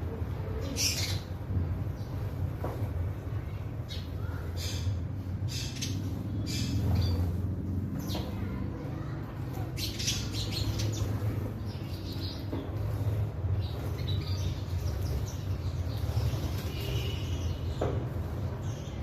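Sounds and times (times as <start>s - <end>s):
sparrows chirping: 0.2s - 2.5s, 3.4s - 19.0s.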